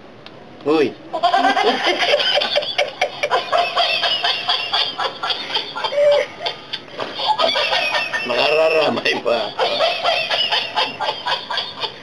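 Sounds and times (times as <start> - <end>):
toy monkey laughing: 1.2 - 12.0.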